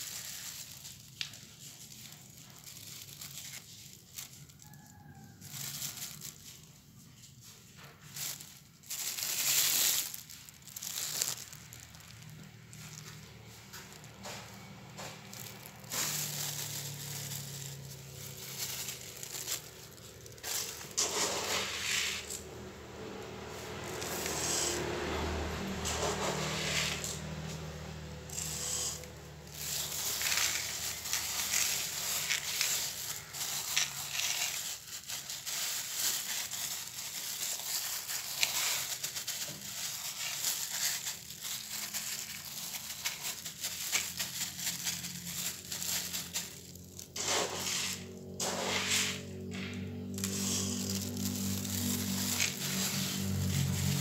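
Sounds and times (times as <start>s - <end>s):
pellets rustling and crunching: 0.0s - 54.0s
plastic glove crinkling: 0.0s - 54.0s.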